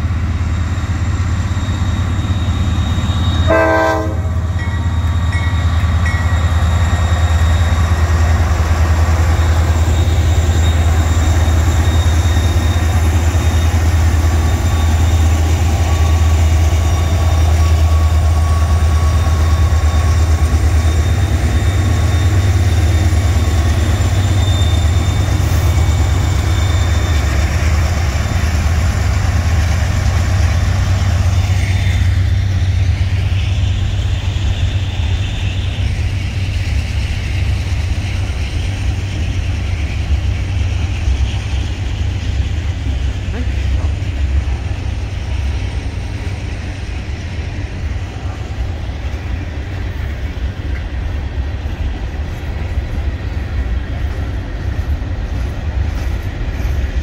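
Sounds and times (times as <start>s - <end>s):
diesel locomotive engines rumbling: 0.0s - 57.0s
rail cars wheels rumbling: 0.0s - 57.0s.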